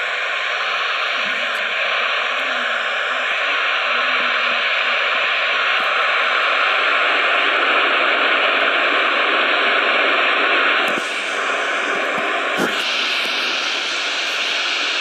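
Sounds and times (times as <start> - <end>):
airliner engines running: 0.0 - 15.0.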